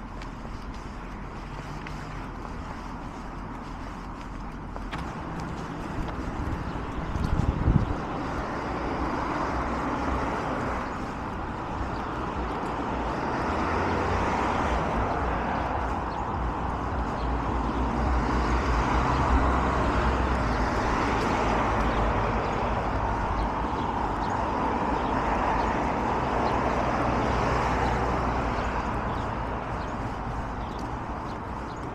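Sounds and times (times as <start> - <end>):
road traffic hum: 0.0 - 31.9.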